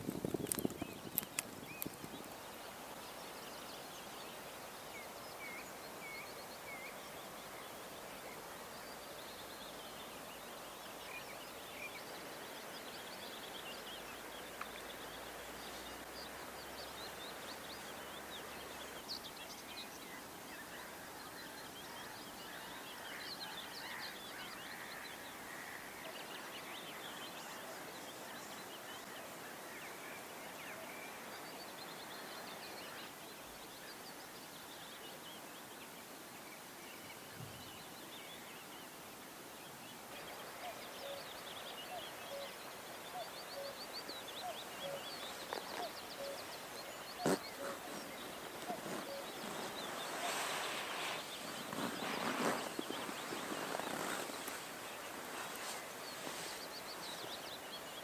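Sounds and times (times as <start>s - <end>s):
small birds chirping: 0.0s - 23.8s, 25.7s - 58.0s
outdoor background hiss: 0.0s - 58.0s.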